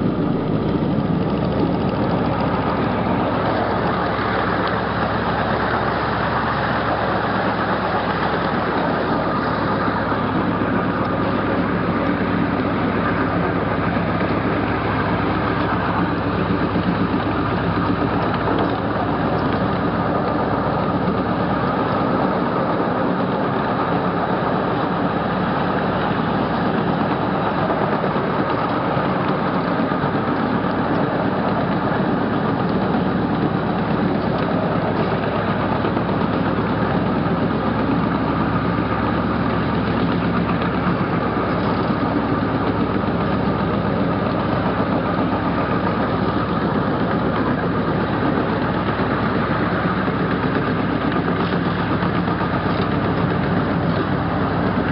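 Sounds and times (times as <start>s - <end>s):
miniature train engine drone: 0.0s - 54.9s
wheels rumbling on rails: 0.0s - 54.9s.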